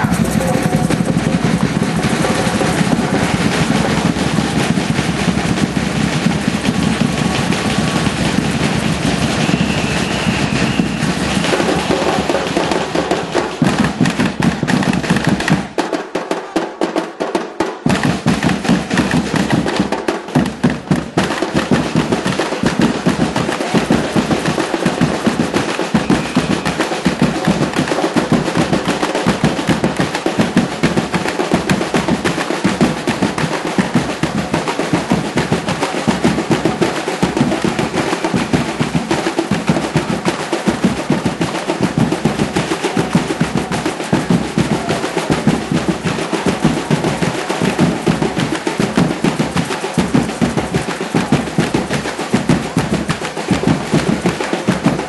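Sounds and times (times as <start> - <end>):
samba drums playing fast rhythm: 0.0 - 55.0.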